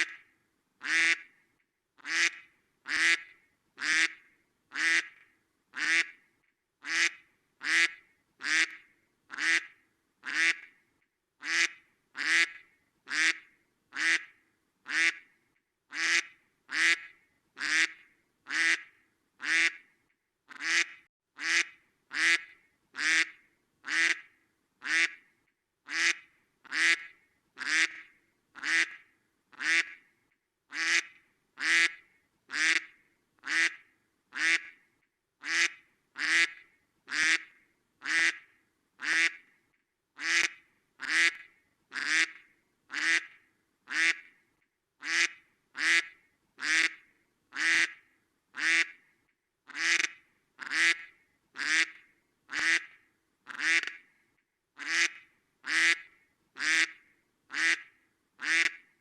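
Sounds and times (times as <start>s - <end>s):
duck quacking: 0.8s - 1.3s, 2.0s - 5.2s, 5.8s - 6.2s, 6.8s - 10.7s, 11.4s - 14.3s, 14.9s - 15.2s, 15.9s - 19.8s, 20.5s - 25.2s, 25.9s - 30.0s, 30.7s - 34.8s, 35.4s - 38.4s, 39.0s - 39.4s, 40.2s - 44.3s, 45.0s - 48.0s, 48.6s - 49.0s, 49.7s - 54.0s, 54.8s - 58.8s.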